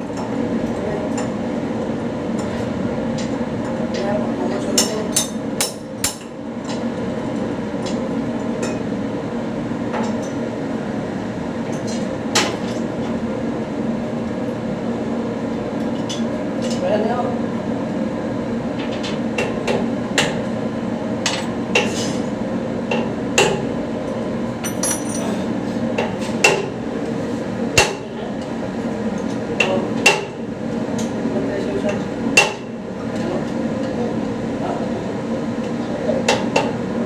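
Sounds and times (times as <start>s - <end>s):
workshop hum: 0.0s - 37.0s.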